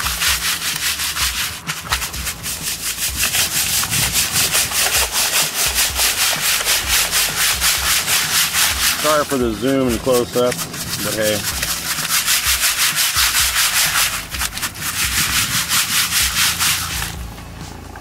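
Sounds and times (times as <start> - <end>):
gravel scraped in water screen: 0.0 - 17.2.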